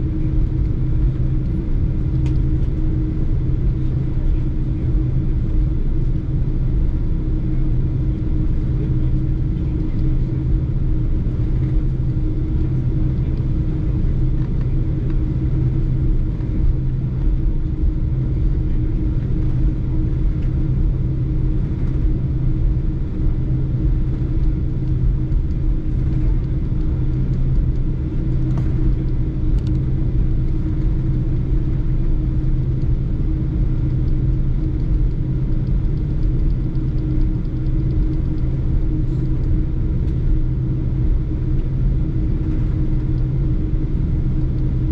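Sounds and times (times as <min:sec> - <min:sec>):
constant low hum: 0:00.0 - 0:44.9
jet engines rumbling: 0:00.0 - 0:44.9.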